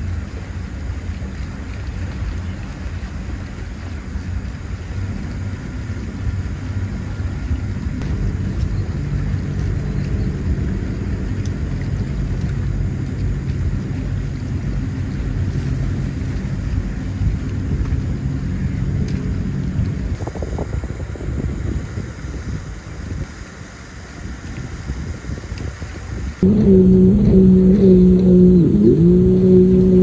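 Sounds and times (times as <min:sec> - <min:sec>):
low rumble: 0:00.0 - 0:30.0.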